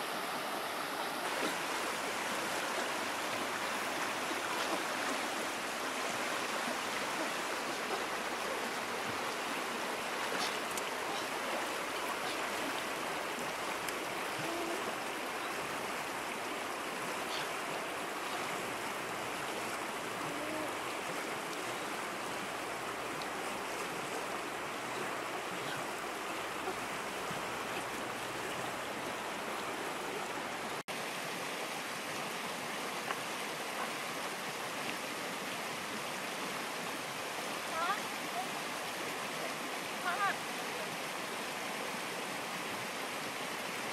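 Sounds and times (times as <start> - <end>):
river rapids rushing over rocks: 0.0 - 43.9.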